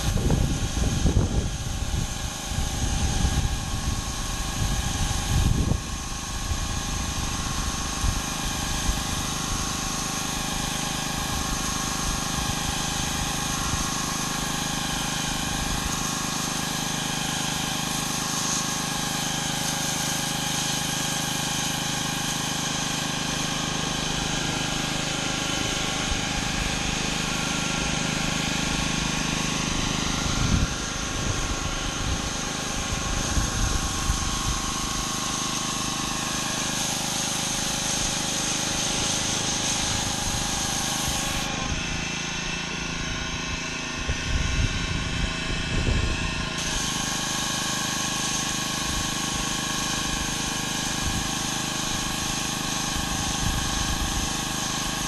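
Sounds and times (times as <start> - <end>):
water spraying on concrete: 0.0 - 44.4, 45.0 - 55.0
pressure washer engine running: 0.0 - 55.0.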